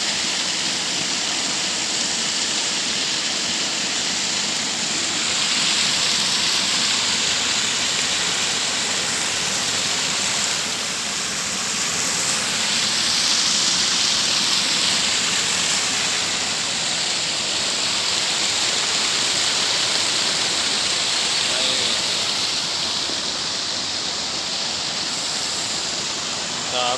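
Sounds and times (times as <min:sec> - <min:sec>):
water rushing over rocks: 0:00.0 - 0:26.9.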